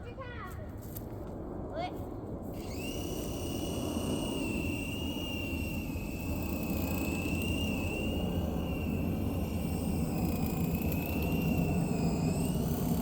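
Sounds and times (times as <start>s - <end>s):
toy helicopter motor whining: 2.5s - 13.0s.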